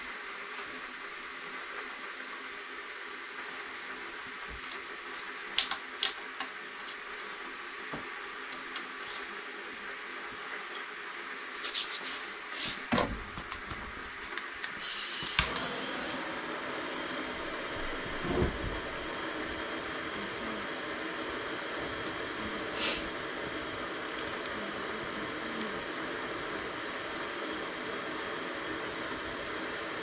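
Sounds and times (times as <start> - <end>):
wood fire hissing and popping: 3.3 - 9.6, 10.2 - 30.0.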